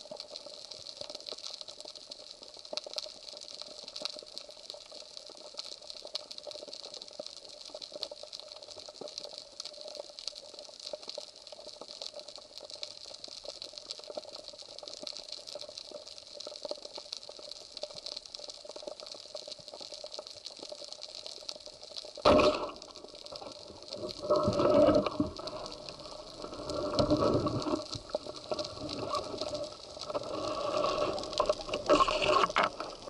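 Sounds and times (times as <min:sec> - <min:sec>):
underwater crackle of tiny clicks: 0:00.0 - 0:33.0.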